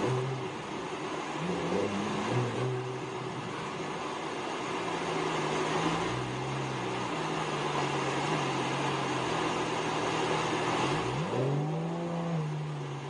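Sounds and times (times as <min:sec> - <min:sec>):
car engine hum: 0:00.0 - 0:13.0
road noise inside car: 0:00.0 - 0:13.0.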